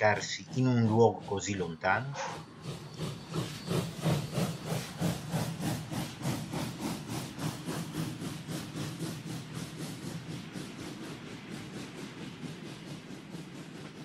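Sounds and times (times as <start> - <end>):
steam train chuffing: 0.0 - 14.0.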